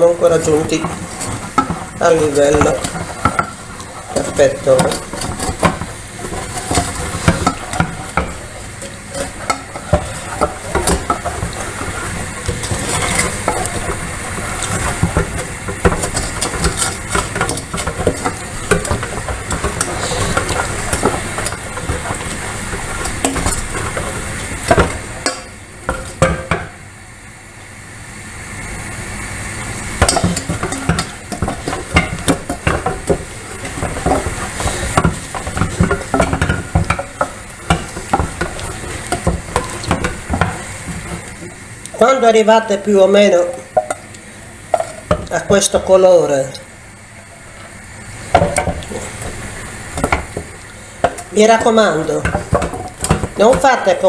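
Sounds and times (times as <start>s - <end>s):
spoon scraping pan: 0.0s - 26.8s, 29.8s - 54.0s.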